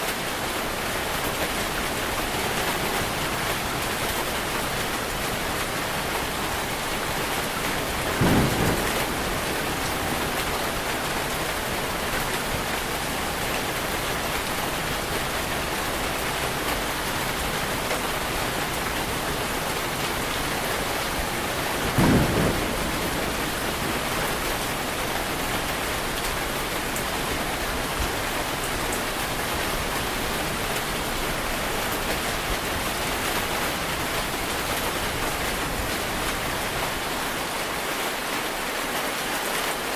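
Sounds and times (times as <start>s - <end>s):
steady rain: 0.0s - 39.9s
low rumbles of thunder: 1.3s - 37.1s.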